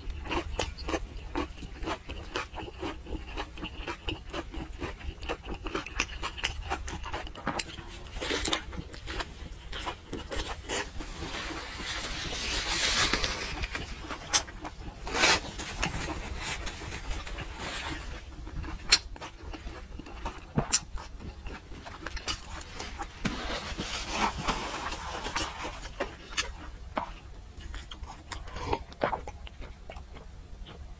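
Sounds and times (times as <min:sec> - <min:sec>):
person chewing: 0:00.0 - 0:30.9.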